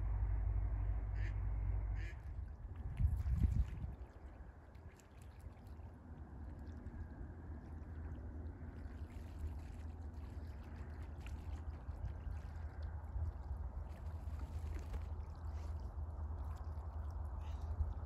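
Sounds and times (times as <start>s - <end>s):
low rumble: 0.0s - 4.8s, 5.6s - 18.0s
soft watery wash: 0.0s - 18.0s.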